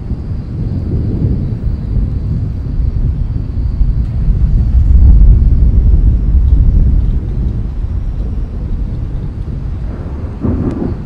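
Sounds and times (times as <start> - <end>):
distant thunder rolling: 0.0 - 11.0.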